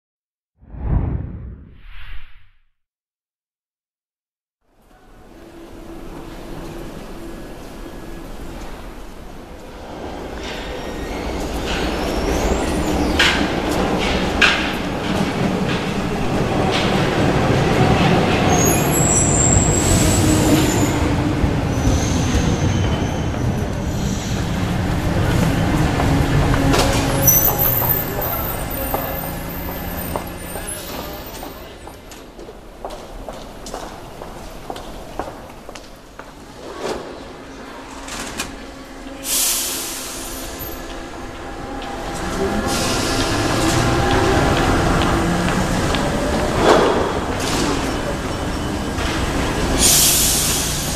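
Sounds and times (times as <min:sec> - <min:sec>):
metro train wheels rumbling: 0:04.9 - 0:50.9.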